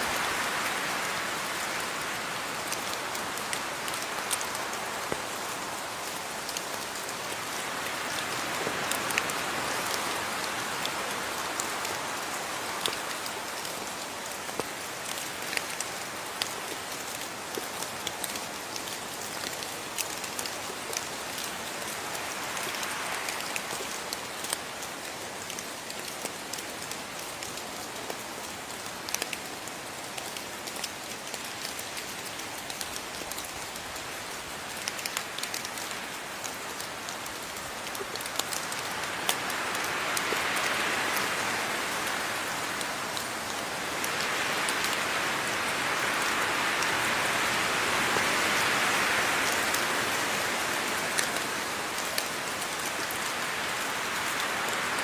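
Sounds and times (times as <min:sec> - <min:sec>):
rain hiss: 0:00.0 - 0:55.0
raindrops ticking on a surface: 0:00.0 - 0:55.0.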